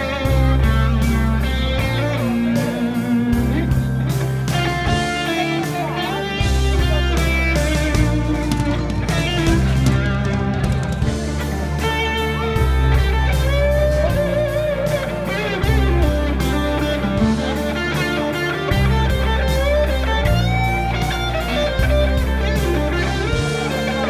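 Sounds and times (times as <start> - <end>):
electric guitar solo: 0.0 - 24.0
low bass notes: 0.0 - 24.0
steady drum beat: 0.0 - 24.0.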